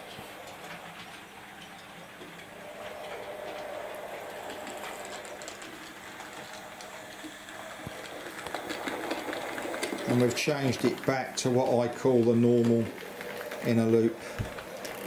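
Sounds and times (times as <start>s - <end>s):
model train motor hum: 0.0s - 15.0s
wheels clicking over rails: 0.0s - 15.0s.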